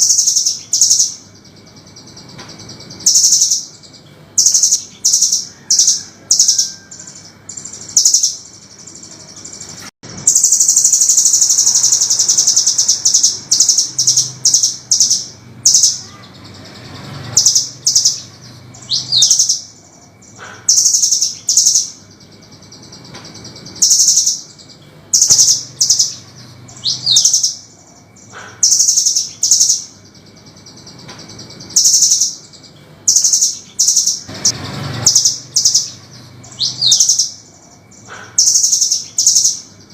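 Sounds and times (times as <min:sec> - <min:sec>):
bird calling high-pitched notes: 0:00.0 - 0:39.9
bird trilling: 0:00.0 - 0:39.9.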